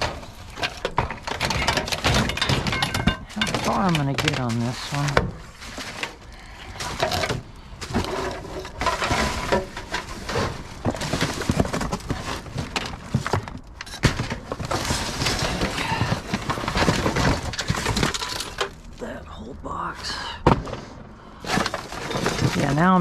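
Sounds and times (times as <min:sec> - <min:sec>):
scrap clattering in a dumpster: 0:00.0 - 0:18.8, 0:20.5 - 0:23.0.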